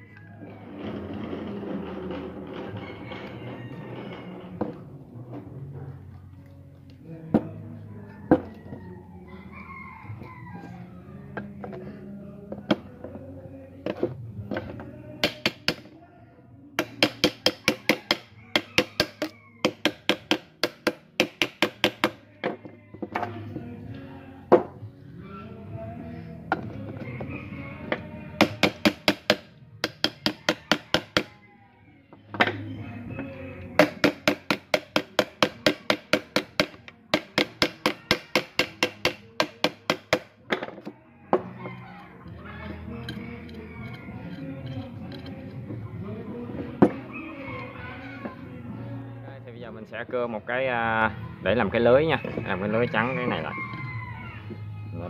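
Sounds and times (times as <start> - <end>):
background music: 0.0 - 55.0.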